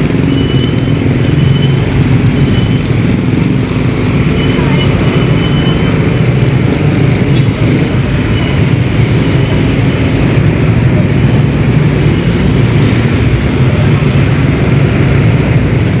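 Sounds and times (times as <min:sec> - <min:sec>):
scooters and cars passing: 0:00.0 - 0:16.0.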